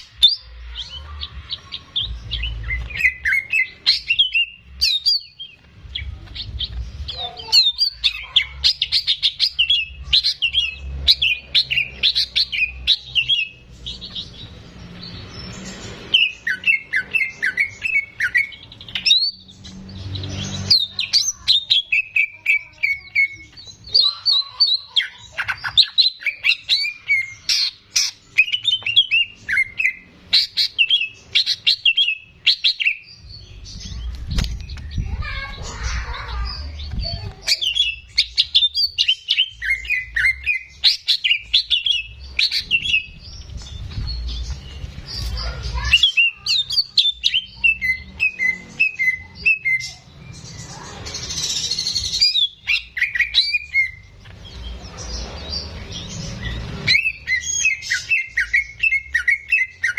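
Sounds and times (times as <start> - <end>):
bird singing chirps and whistles: 0.0 - 14.5, 15.6 - 35.0, 36.5 - 59.9.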